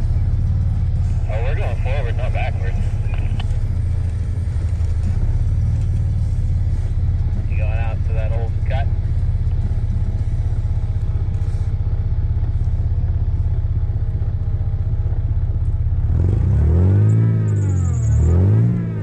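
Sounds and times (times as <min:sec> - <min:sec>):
truck engine running and revving: 0:00.0 - 0:19.0.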